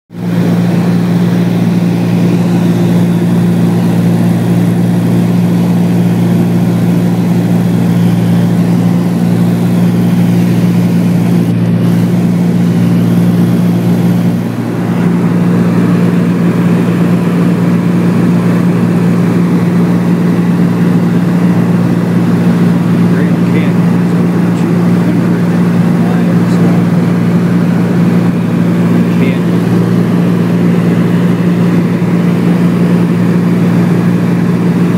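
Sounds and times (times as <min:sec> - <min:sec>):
aircraft engine droning: 0:00.1 - 0:34.9.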